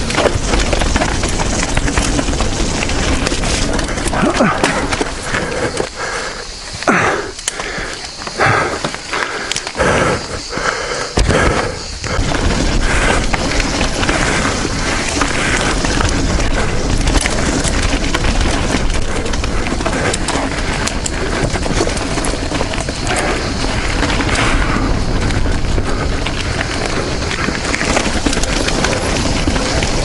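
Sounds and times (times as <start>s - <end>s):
bike rattling clicks and knocks: 0.0s - 30.0s
tyres rolling over dirt: 0.0s - 30.0s
wind rush on microphone: 0.0s - 30.0s.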